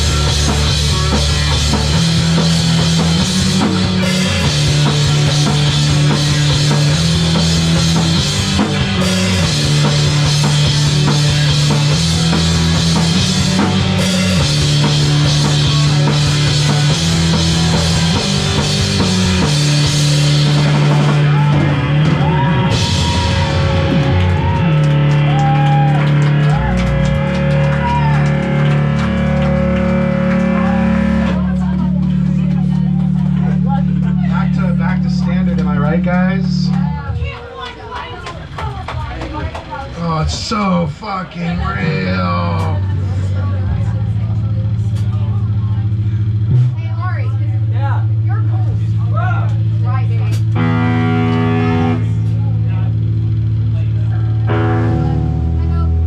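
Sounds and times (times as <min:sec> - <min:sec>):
drum kit: 0:00.0 - 0:37.4, 0:38.0 - 0:47.0, 0:48.0 - 0:56.0
bass guitar: 0:00.0 - 0:56.0
electric guitar: 0:00.0 - 0:56.0.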